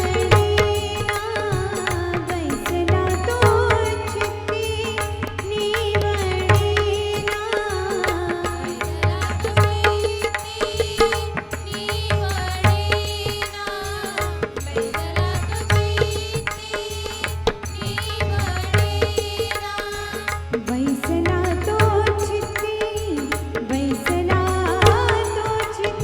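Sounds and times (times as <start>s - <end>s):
tabla and pakhawaj drumming: 0.0s - 26.0s.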